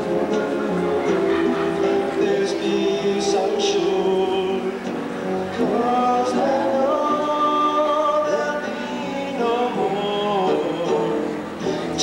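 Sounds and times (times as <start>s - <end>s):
backing music: 0.0s - 12.0s
young man singing: 2.0s - 12.0s.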